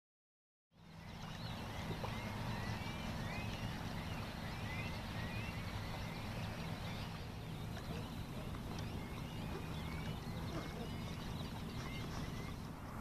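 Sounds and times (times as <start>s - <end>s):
birds chirping: 0.8s - 13.0s
steady low rumble: 0.8s - 13.0s.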